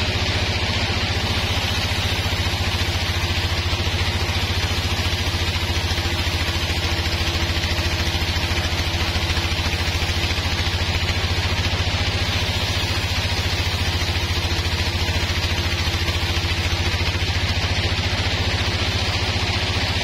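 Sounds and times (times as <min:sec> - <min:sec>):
band sawmill running: 0:00.0 - 0:20.0.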